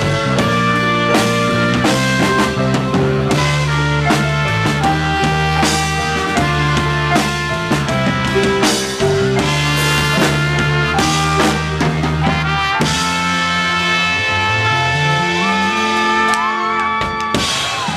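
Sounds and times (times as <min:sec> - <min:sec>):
bass and guitar notes: 0:00.0 - 0:17.9
drum kit beating: 0:00.0 - 0:17.9.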